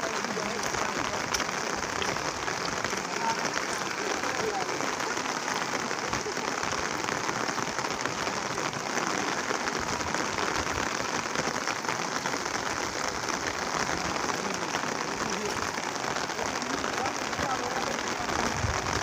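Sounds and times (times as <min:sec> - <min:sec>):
heavy rain hissing: 0:00.0 - 0:19.0
rushing flooded stream: 0:00.0 - 0:19.0.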